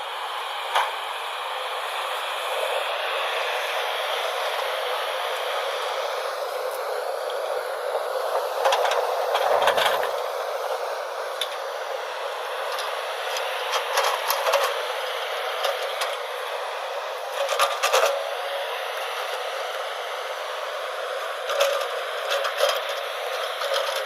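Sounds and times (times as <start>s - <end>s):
backhoe loader working: 0.0s - 24.0s.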